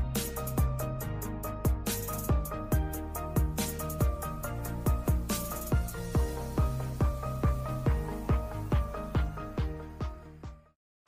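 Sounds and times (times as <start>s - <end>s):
electronic music: 0.0s - 10.8s
kick drum: 0.0s - 10.8s.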